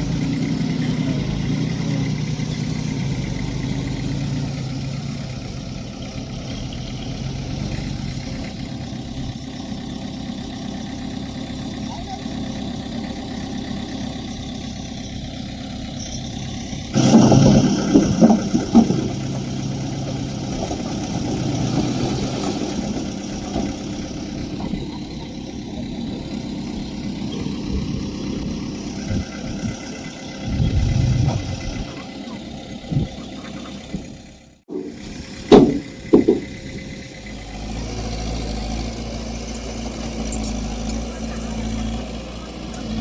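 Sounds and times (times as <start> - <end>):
diesel machinery engine: 0.0 - 43.0.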